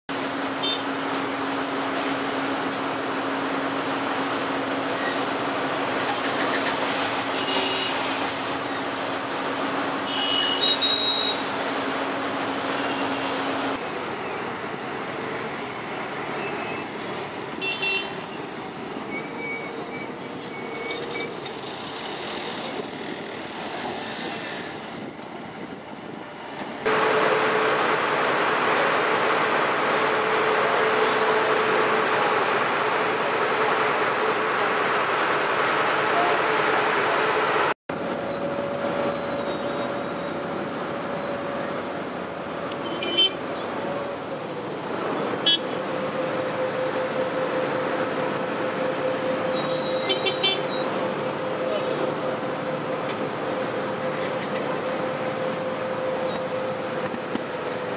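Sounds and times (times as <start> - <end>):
ferry engine humming: 0.1 - 23.9, 24.6 - 57.9.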